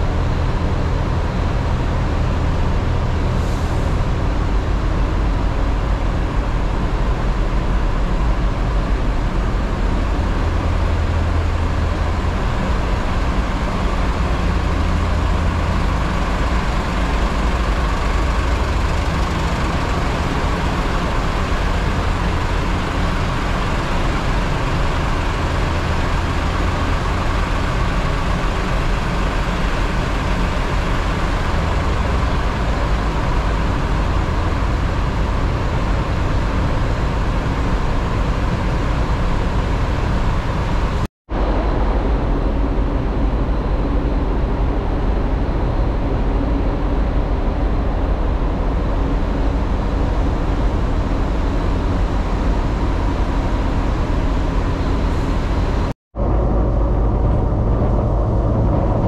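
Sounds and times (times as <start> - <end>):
ferry engine drone: 0.0 - 59.0
low rumble and hiss: 0.0 - 59.0.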